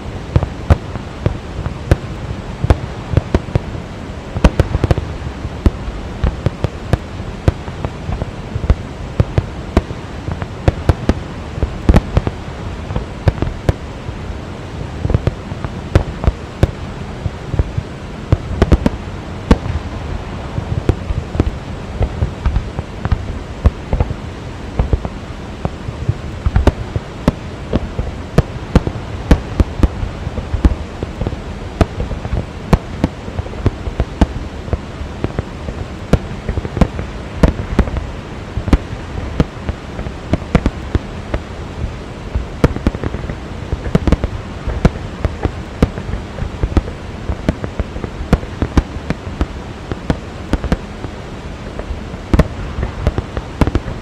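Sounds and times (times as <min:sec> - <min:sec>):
waterfall roar: 0:00.0 - 0:54.0
fireworks bangs and crackles: 0:00.1 - 0:54.0.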